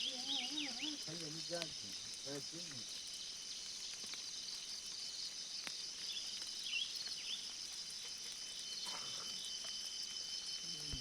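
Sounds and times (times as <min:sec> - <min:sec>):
insects chorusing: 0:00.0 - 0:05.2, 0:07.3 - 0:11.0.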